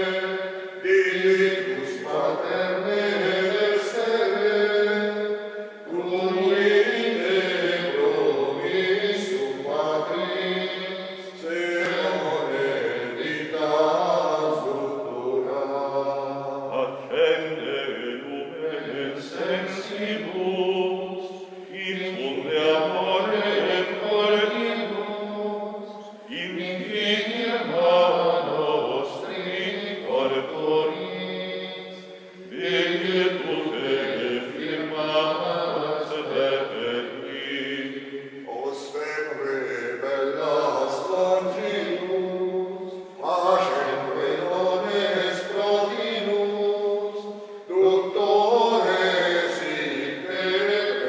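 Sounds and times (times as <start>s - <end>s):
men chanting a prayer in unison: 0.0s - 51.0s.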